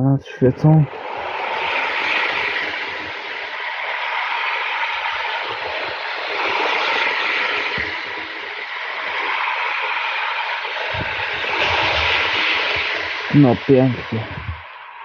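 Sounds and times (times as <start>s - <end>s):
model train motor whirring: 1.1s - 13.2s.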